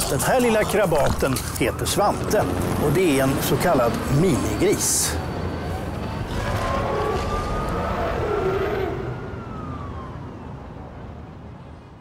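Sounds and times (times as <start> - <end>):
siren wailing: 0.0 - 11.7
city traffic noise: 0.0 - 12.0.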